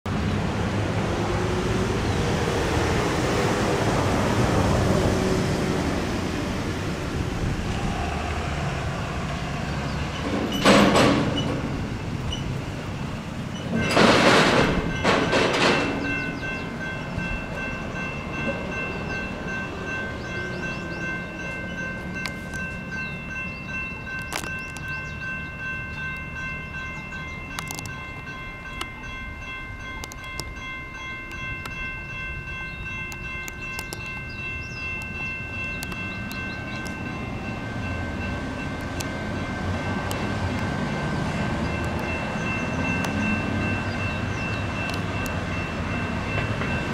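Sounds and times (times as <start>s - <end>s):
road traffic passing: 0.1s - 46.9s
crossing bell ringing: 1.2s - 46.9s.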